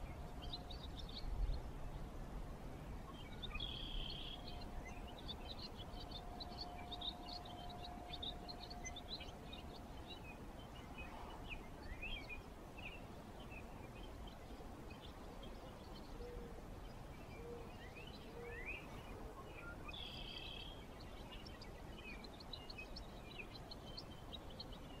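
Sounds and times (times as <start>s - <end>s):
faint steady hum: 0.0s - 25.0s
small birds chirping: 0.0s - 25.0s.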